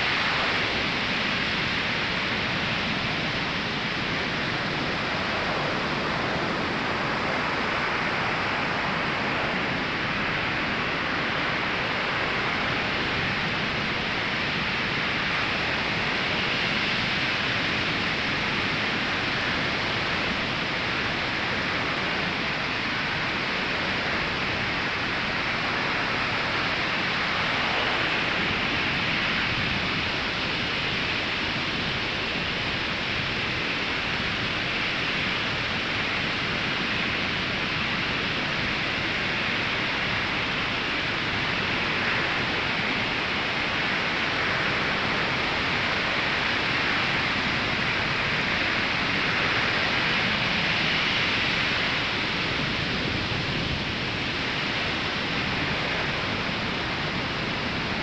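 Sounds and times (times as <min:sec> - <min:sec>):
ocean waves breaking on a beach: 0:00.0 - 0:58.0.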